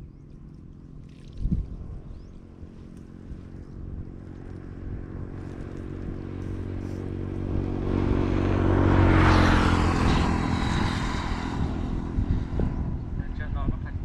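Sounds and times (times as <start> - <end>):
passing vehicle engine: 0.0 - 14.0.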